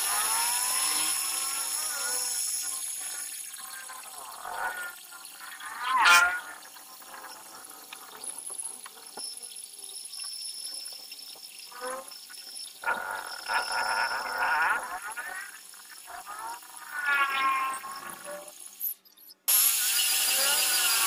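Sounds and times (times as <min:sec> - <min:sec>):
lathe tool squealing on metal: 0:00.0 - 0:21.0.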